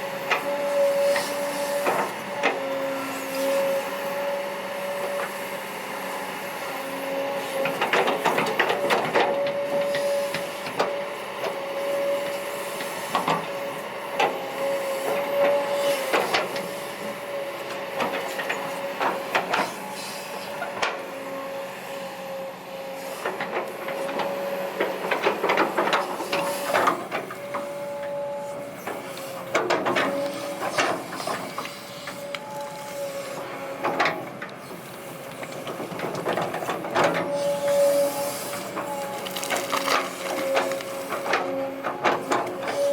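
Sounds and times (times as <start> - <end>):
excavator whine: 0.0 - 42.9.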